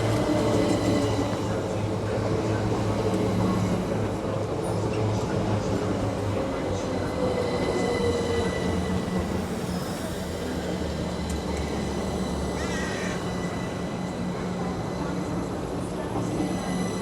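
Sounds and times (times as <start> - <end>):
train rumble and engine hum: 0.0 - 17.0.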